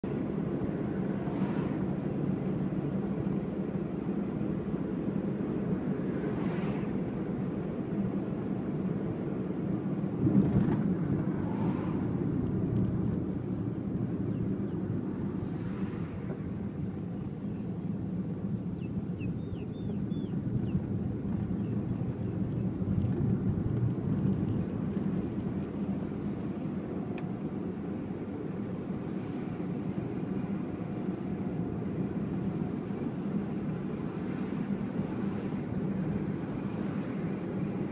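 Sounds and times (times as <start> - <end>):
car engine and tyres rumbling: 0.0 - 37.9.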